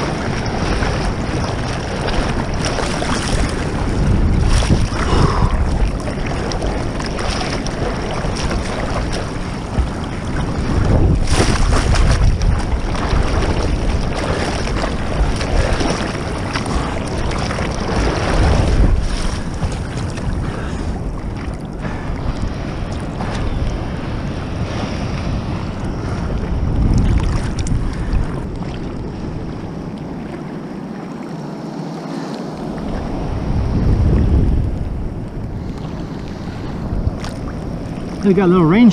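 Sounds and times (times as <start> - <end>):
sea water sloshing and splashing: 0.0 - 38.9
surf: 0.0 - 38.9
wind buffeting microphone: 0.0 - 38.9.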